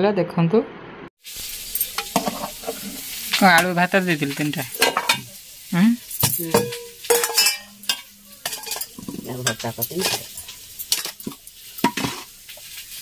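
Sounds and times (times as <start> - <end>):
metal pots and ladle clinking: 1.6 - 5.4, 6.1 - 12.8.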